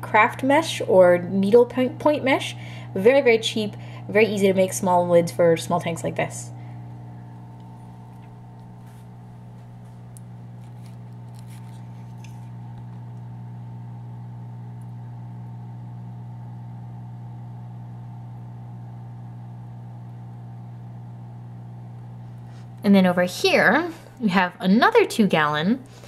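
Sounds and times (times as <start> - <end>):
low electric hum: 0.0 - 26.0.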